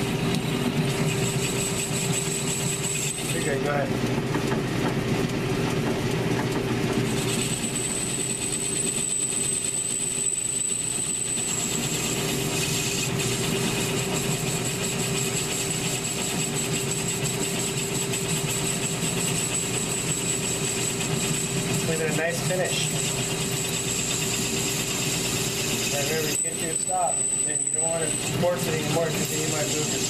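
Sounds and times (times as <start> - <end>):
high whine of cutting tool: 0.0 - 30.0
lathe drive hum: 0.0 - 30.0.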